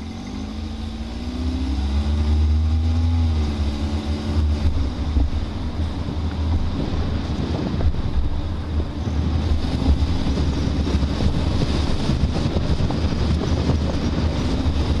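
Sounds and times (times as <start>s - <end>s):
road and engine rumble: 0.0s - 15.0s
wind buffeting microphone: 0.2s - 15.0s.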